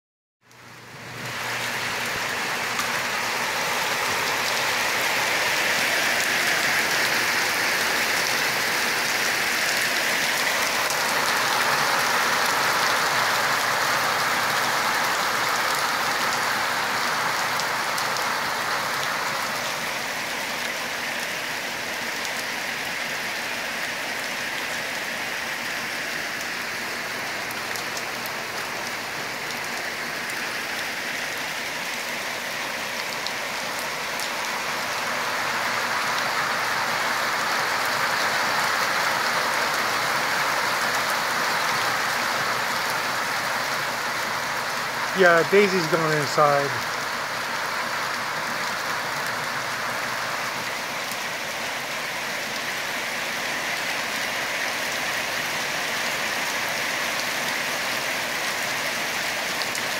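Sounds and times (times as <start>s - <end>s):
steady rain pattering: 0.4s - 59.9s.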